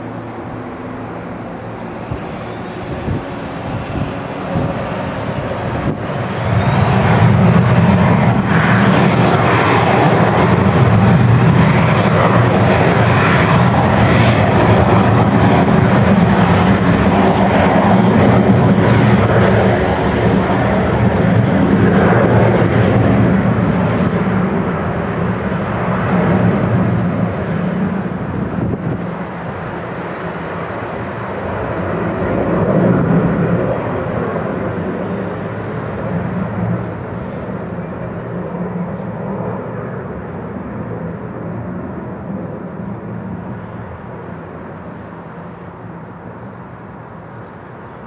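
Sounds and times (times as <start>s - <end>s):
jet engines at takeoff: 0.0s - 48.0s.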